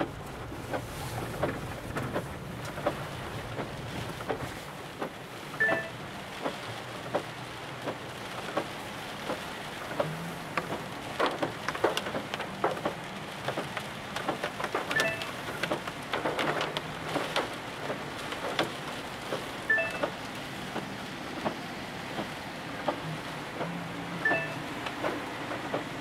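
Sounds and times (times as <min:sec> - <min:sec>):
car moving on wet road: 0:00.0 - 0:26.0
raindrops tapping on car roof: 0:00.0 - 0:26.0.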